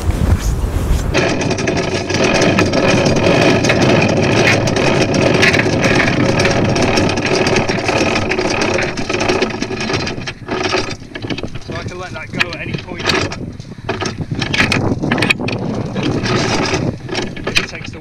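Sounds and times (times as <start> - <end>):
anchor chain rattling over roller: 1.1 - 18.0.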